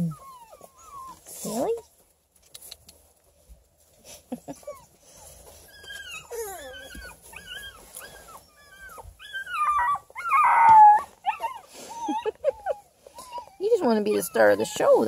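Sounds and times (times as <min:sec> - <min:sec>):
puppy whining and yelping: 0:00.0 - 0:01.4, 0:04.3 - 0:15.0.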